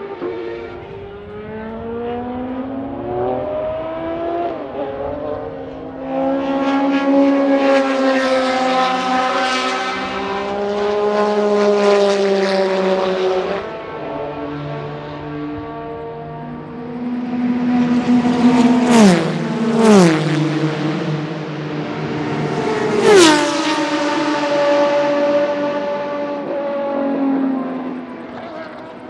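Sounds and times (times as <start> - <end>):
race car engine accelerating: 0.0 - 29.0.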